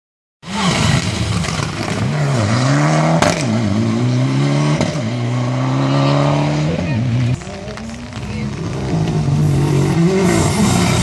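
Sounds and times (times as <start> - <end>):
rally car engine revving: 0.4 - 11.0.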